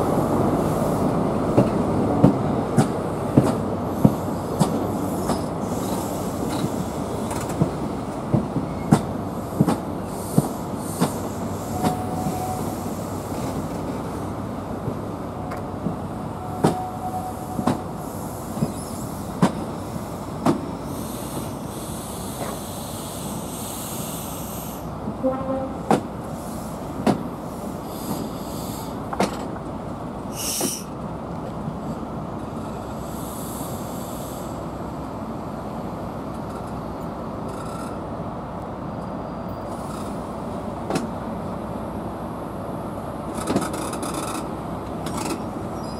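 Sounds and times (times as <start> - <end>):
train coaches rumbling past: 0.0 - 45.9.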